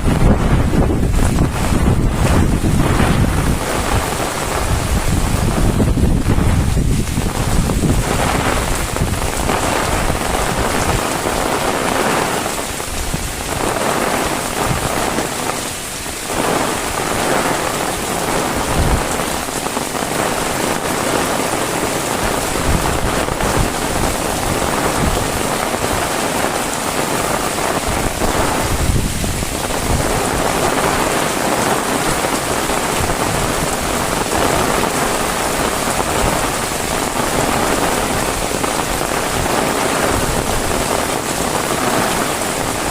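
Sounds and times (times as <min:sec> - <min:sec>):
heavy rain pouring: 0:00.0 - 0:42.9
thumps of heavy raindrops: 0:00.0 - 0:42.9.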